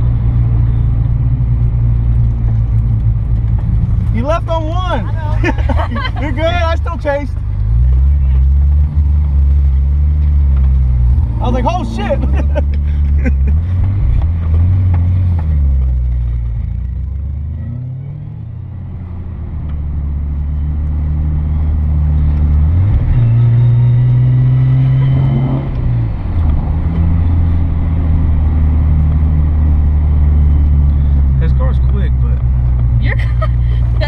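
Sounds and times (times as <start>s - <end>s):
car engine drone from inside cabin: 0.0s - 34.0s.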